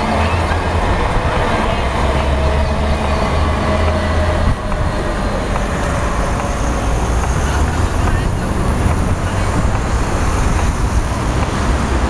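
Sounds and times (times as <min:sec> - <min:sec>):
large vehicle engine rumbling: 0:00.0 - 0:12.0
street traffic: 0:00.0 - 0:12.0.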